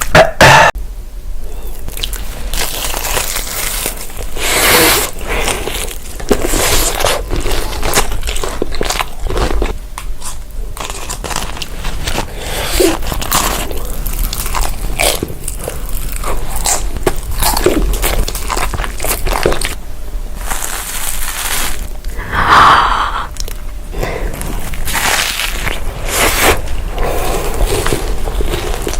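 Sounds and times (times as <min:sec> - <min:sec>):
crunchy food being chewed: 0:01.6 - 0:19.8, 0:20.4 - 0:22.2, 0:23.3 - 0:28.9.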